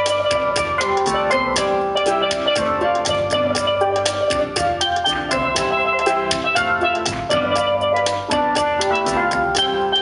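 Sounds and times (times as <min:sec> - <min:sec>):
fast drum beat: 0:00.0 - 0:10.0
steel pans playing calypso: 0:00.0 - 0:10.0.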